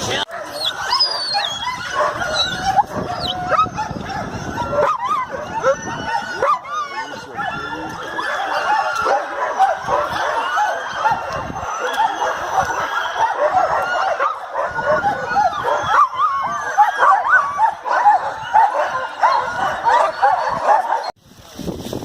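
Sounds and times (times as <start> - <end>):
sled dogs barking and yelping: 0.0 - 21.2.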